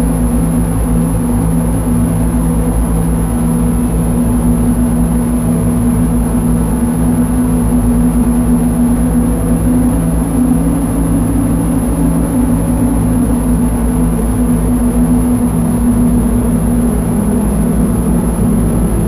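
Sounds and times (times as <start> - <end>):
low synthesizer drone: 0.0 - 19.0.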